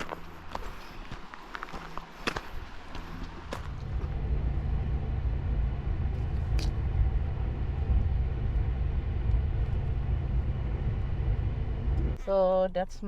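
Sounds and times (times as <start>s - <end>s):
car interior rumble: 0.0s - 12.2s.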